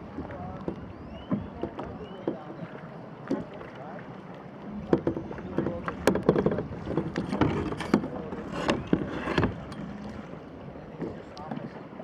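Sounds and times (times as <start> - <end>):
water slapping against hull: 0.0 - 12.0.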